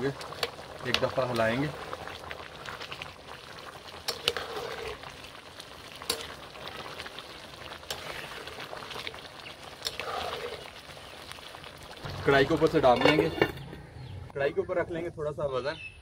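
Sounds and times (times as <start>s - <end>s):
rice and water bubbling in pan: 0.0s - 13.4s.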